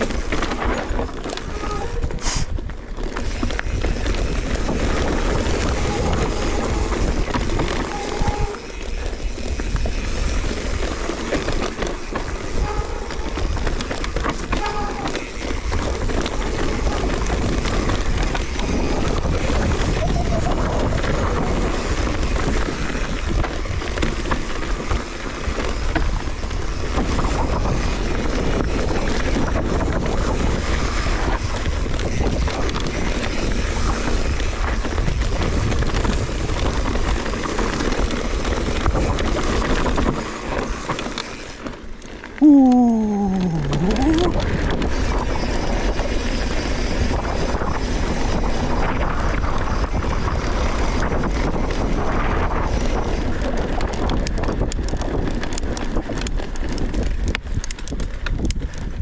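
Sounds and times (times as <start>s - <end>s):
wind buffeting microphone: 0.0s - 41.1s, 42.8s - 59.0s
rumble and rattle of riding: 0.0s - 59.0s.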